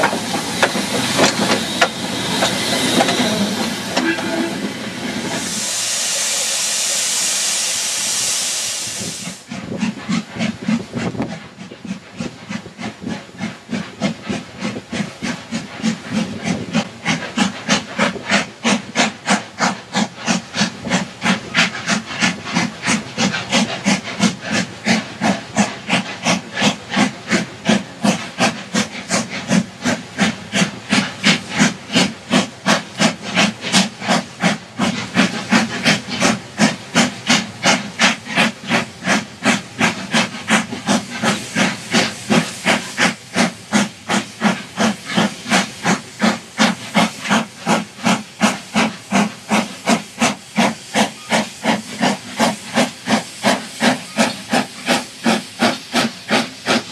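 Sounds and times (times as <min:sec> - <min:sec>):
hiss of steam: 0:00.0 - 0:56.9
steam locomotive exhaust chuffing: 0:00.0 - 0:56.9.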